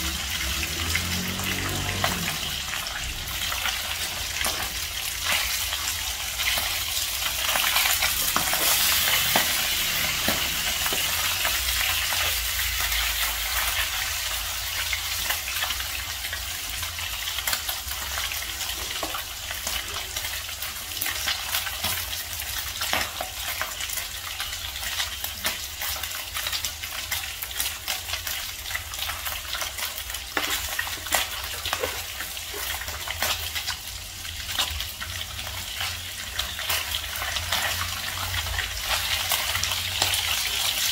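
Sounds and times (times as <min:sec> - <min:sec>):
fish frying in hot oil: 0:00.0 - 0:40.9.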